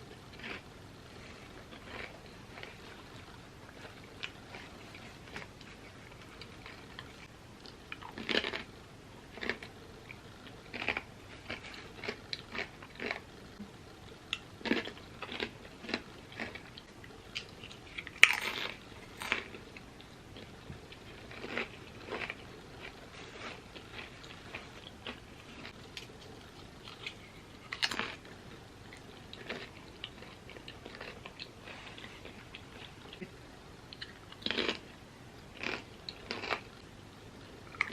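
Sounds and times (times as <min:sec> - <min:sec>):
person chewing crunchy chips: 0:00.3 - 0:13.3, 0:14.3 - 0:36.8, 0:37.7 - 0:37.9.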